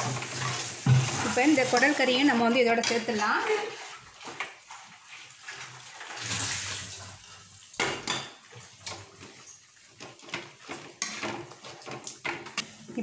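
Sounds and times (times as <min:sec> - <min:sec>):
ladle scraping a metal pan: 0:00.0 - 0:07.2, 0:08.0 - 0:12.6
liquid splashing into a pan: 0:00.0 - 0:12.6.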